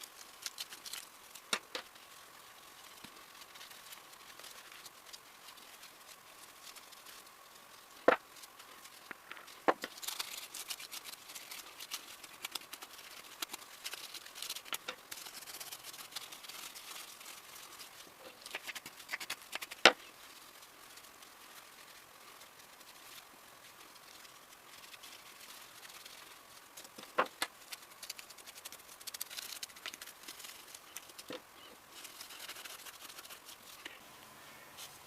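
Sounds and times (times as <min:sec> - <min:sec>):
small clicks and scraping: 0:00.0 - 0:34.0.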